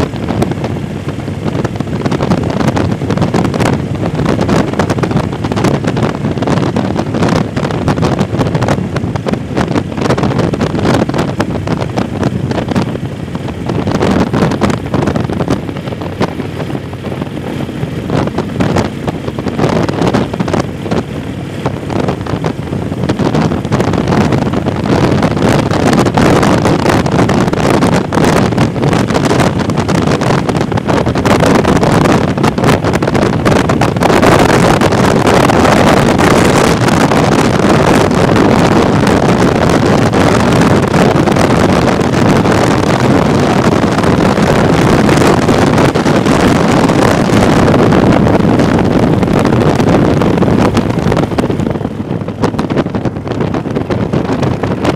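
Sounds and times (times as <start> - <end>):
motorcycle engine and road noise: 0.0 - 54.9
wind buffeting microphone: 0.0 - 54.9.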